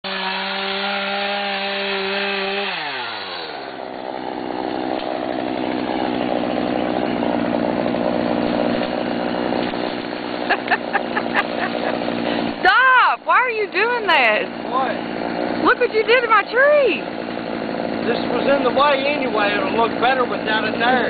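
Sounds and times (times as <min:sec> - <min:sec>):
chainsaw running: 0:00.0 - 0:21.0.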